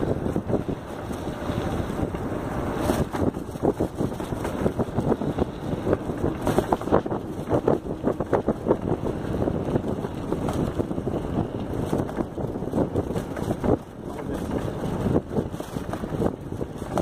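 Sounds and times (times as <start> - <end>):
bicycle rattling and knocking: 0.0 - 17.0
wind buffeting microphone: 0.0 - 17.0.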